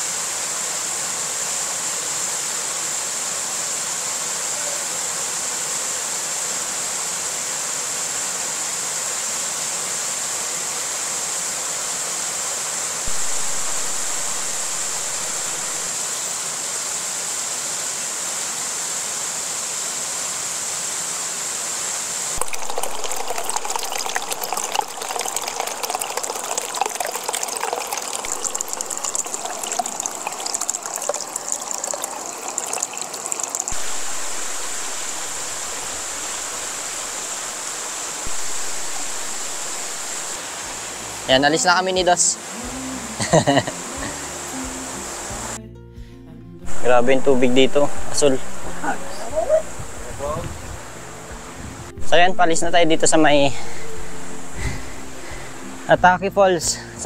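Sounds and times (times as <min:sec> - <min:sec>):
waterfall rushing: 0:00.0 - 0:45.6, 0:46.7 - 0:57.0.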